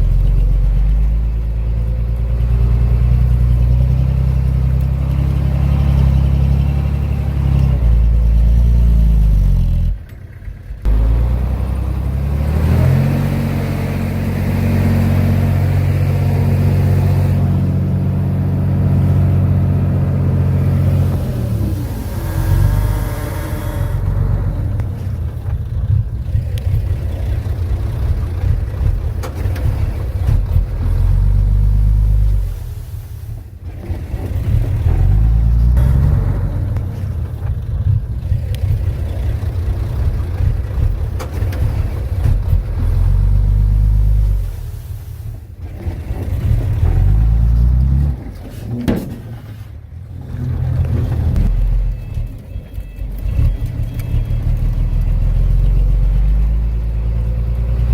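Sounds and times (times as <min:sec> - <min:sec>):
dozer diesel engine revving: 0:00.0 - 0:57.9.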